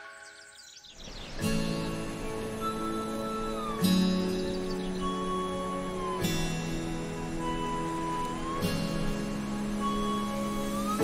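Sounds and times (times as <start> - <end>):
gentle held chords: 1.1 - 11.0.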